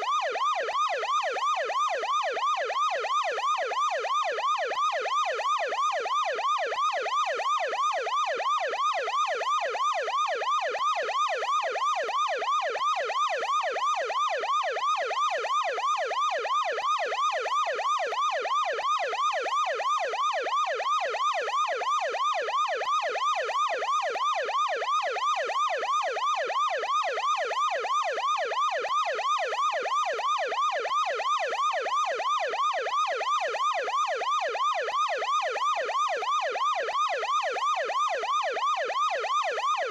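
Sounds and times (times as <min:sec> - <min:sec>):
ambulance yelp siren: 0:00.0 - 0:39.9.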